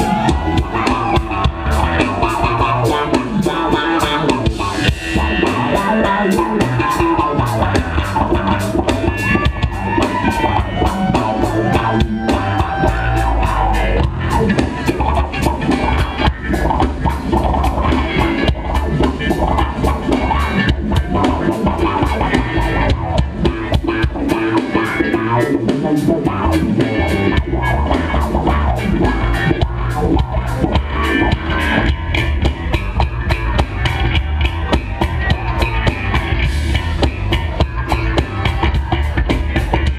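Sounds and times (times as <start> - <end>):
live funk band playing: 0.0 - 39.9.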